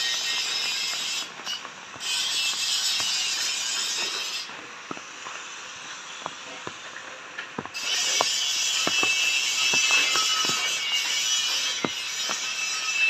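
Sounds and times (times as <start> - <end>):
footsteps on wet pavement: 0.0 - 12.8
steady high-pitched hiss: 0.0 - 13.0.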